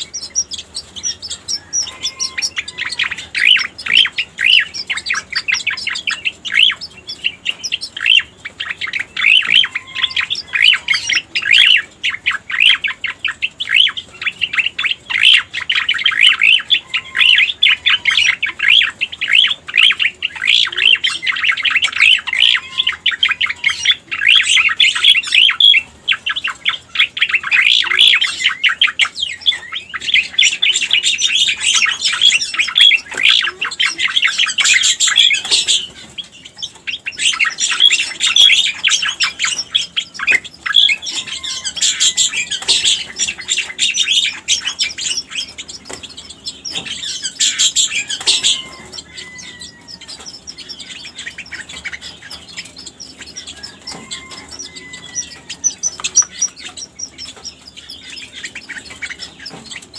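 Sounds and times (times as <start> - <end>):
bird chirps and trills: 0.0 - 59.9.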